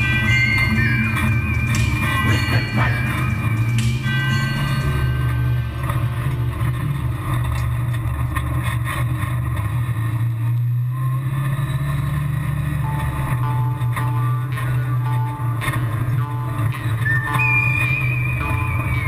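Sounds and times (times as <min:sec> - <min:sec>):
engine running at low speed: 0:00.0 - 0:19.0.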